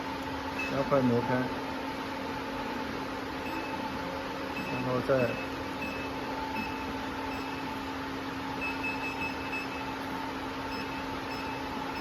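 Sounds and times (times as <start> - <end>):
sewing machine electric hum: 0.0 - 12.0.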